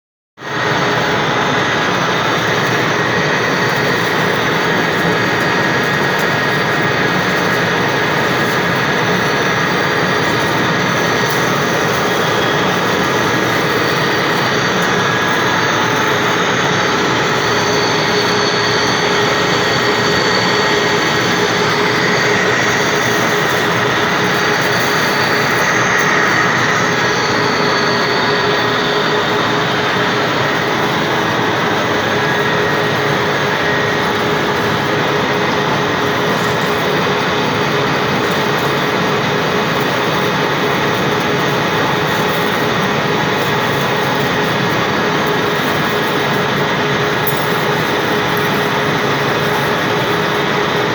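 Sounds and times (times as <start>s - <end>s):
machine tool cutting with whine: 0.5s - 50.9s.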